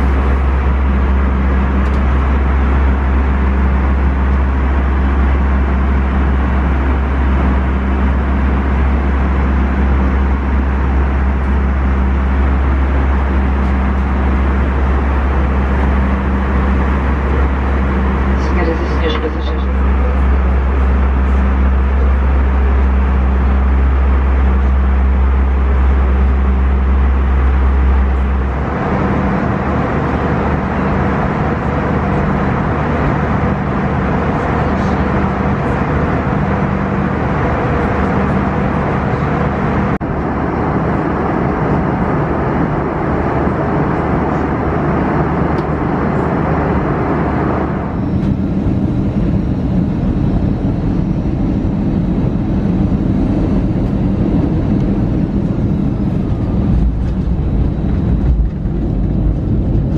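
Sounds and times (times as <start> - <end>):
airplane cabin roar: 0.0 - 59.9.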